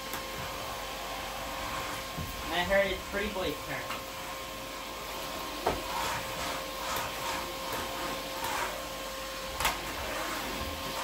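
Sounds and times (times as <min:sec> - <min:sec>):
shop vacuum whining: 0:00.0 - 0:11.0.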